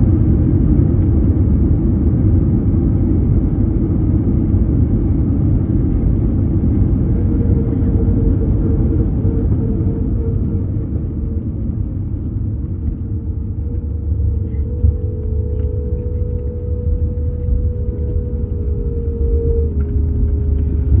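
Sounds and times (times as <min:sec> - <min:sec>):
faint steady hum: 0:00.0 - 0:21.0
wheels rumbling on runway: 0:00.0 - 0:21.0.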